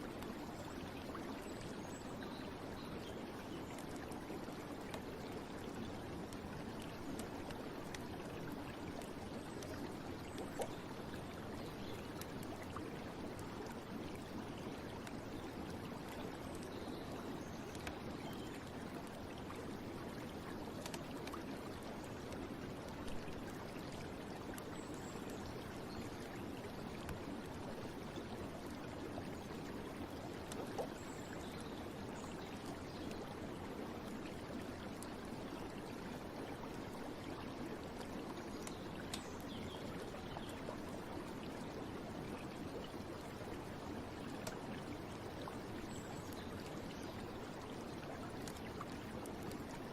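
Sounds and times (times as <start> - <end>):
faint ticks: 0.0 - 41.7, 42.4 - 49.9
running water: 0.0 - 49.9.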